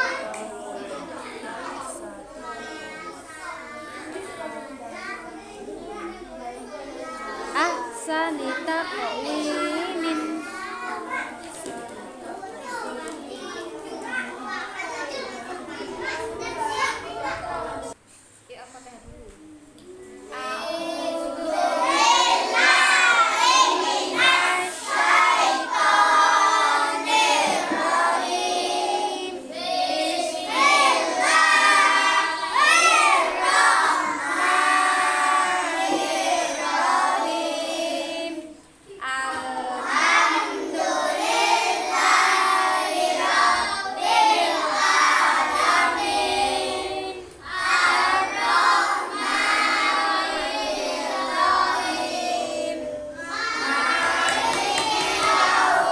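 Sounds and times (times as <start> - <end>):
children singing: 0.0 - 18.0, 19.9 - 55.9.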